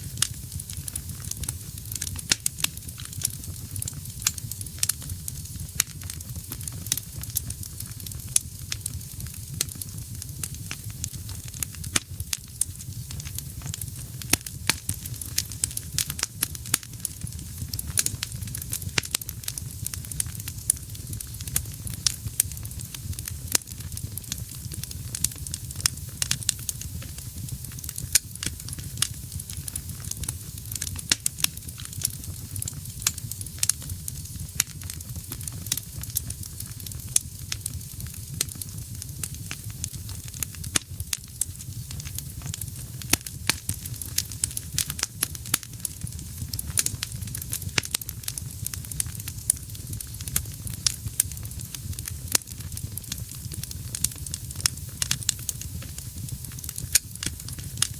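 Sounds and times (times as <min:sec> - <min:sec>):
burning logs crackling: 0:00.0 - 0:57.9
low rumble of flames: 0:00.0 - 0:57.9.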